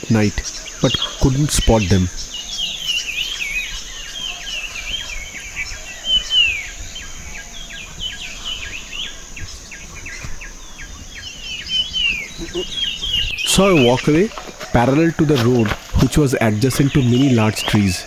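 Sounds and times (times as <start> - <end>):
high insect buzz: 0.0 - 15.1
birds chirping and whistling: 0.0 - 18.0
loud falling bird call: 0.0 - 18.0.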